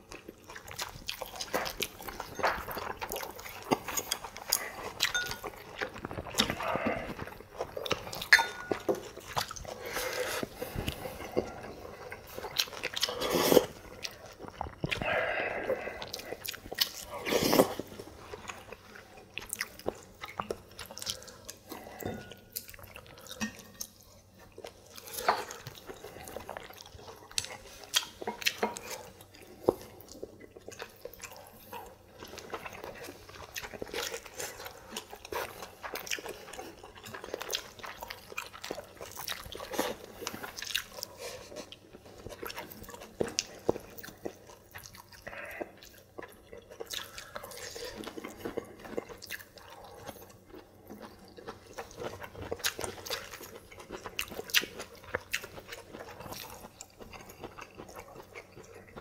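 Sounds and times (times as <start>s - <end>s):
people chewing food: 0.0s - 59.0s.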